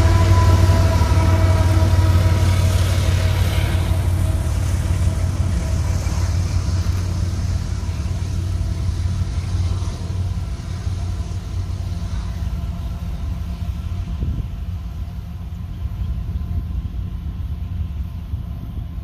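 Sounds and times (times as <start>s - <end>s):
large engine rumbling: 0.0s - 19.0s.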